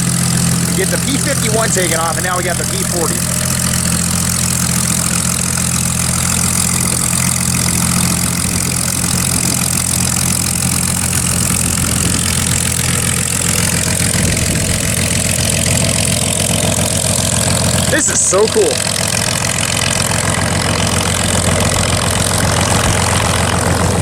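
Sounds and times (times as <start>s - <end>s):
piston aircraft engine idling: 0.0s - 24.0s.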